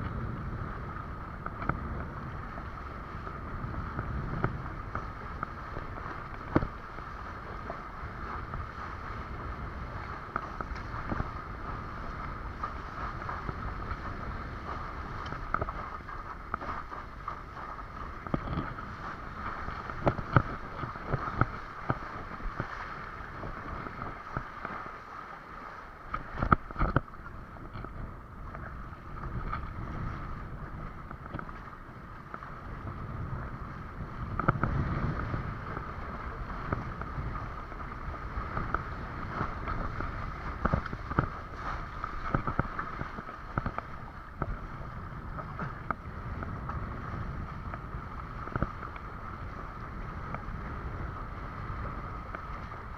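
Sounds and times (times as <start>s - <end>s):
rush of wind and water: 0.0s - 52.9s.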